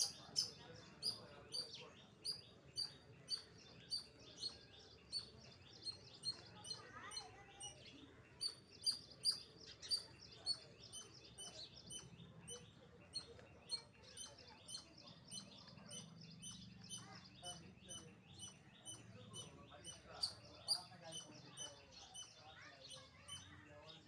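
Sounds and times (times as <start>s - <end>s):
squirrel chirping: 0.0s - 7.3s, 8.4s - 23.5s.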